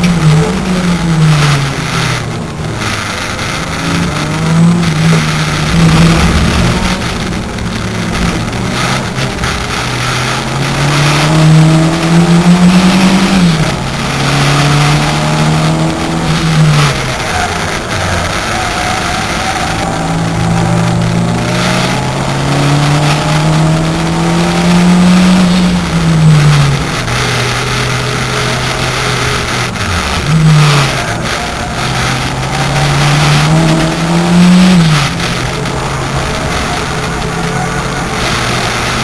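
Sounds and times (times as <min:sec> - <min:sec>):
turbocharged car engine revving: 0:00.0 - 0:39.0.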